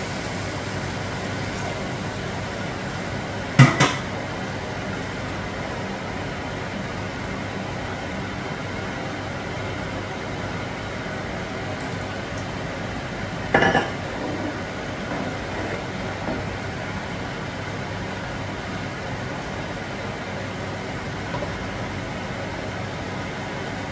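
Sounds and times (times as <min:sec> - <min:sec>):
broth simmering in a pot: 0:00.0 - 0:23.9.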